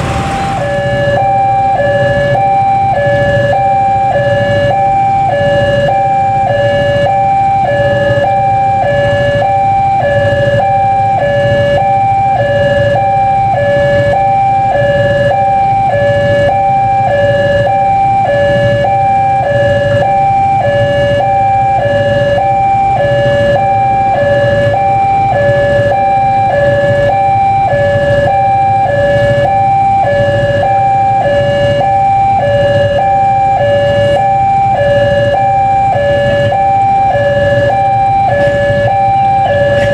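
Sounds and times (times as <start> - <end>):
low steady rumble: 0.0 - 39.9
level crossing alarm: 0.1 - 39.9.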